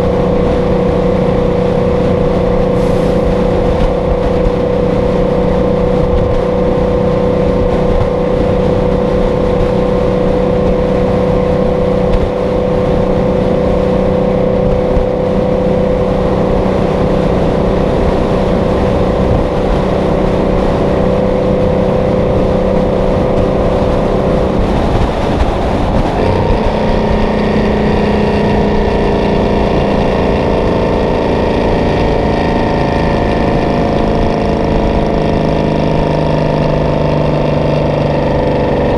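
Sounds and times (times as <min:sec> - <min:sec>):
truck engine at highway speed: 0:00.0 - 0:38.9.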